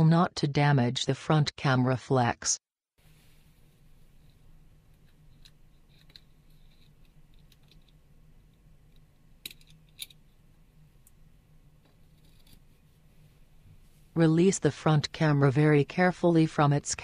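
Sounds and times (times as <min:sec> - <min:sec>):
faint steady low hum: 0:03.0 - 0:16.7.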